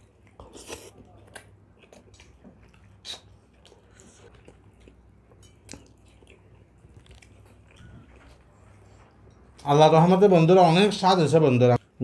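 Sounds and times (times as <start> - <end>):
chewing and mouth smacks: 0.0 - 9.6.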